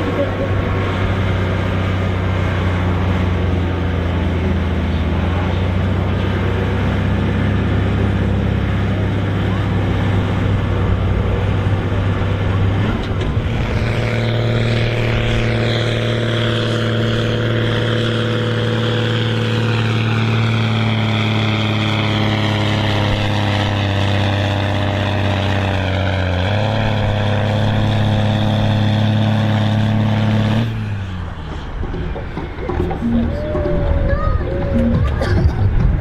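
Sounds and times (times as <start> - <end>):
tractor engine under full load: 0.0 - 36.0.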